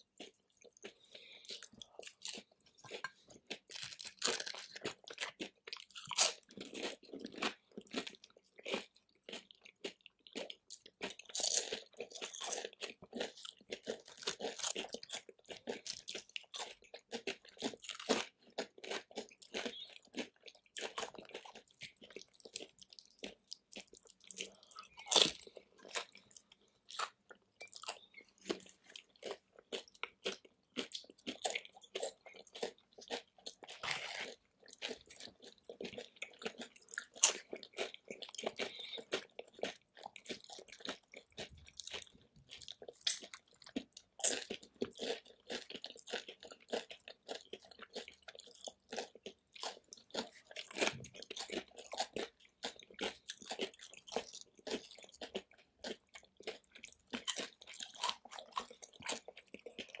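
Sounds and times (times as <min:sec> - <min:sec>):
crunching tortilla chips: 0:00.2 - 1:00.0.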